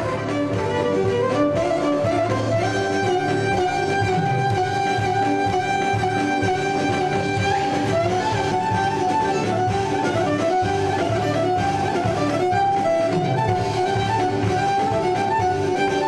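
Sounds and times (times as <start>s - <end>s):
keyboard accompaniment: 0.0s - 16.0s
plucked strings: 0.0s - 16.0s
violin melody: 0.0s - 16.0s.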